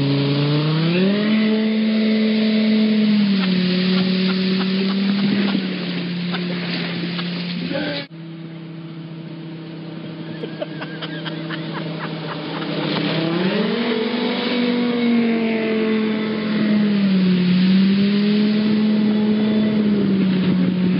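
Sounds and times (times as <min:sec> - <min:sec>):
water spray rushing: 0:00.0 - 0:08.1, 0:10.4 - 0:20.9
speedboat engine revving: 0:00.0 - 0:20.9.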